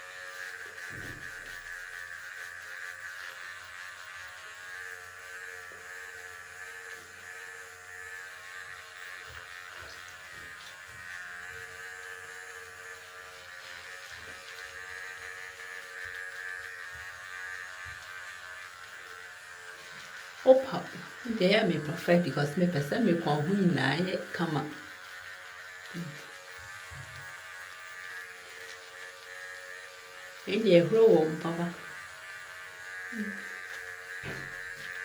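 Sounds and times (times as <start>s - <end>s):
electric cleansing brush buzzing: 0.0s - 35.0s.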